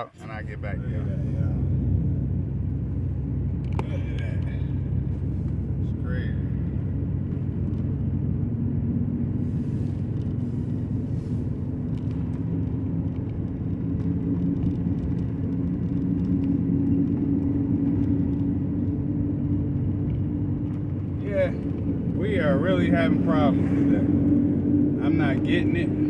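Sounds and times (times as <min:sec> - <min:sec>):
pickup truck engine rumble: 0:00.0 - 0:26.0.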